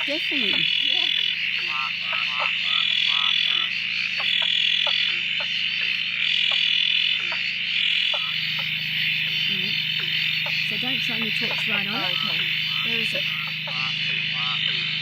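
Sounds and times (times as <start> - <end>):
frog chorus trilling: 0.0 - 15.0.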